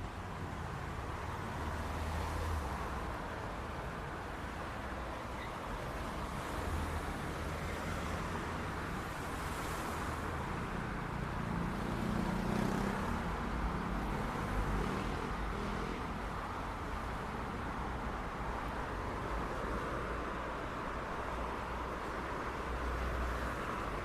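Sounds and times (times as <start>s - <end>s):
passing cars and tyre noise: 0.0s - 24.0s.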